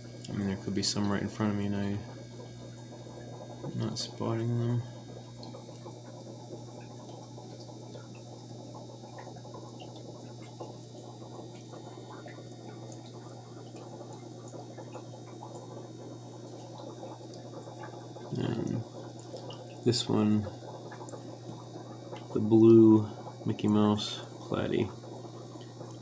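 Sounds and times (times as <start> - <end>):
aquarium filter hum: 0.0 - 26.0
water bubbling and trickling: 0.0 - 26.0.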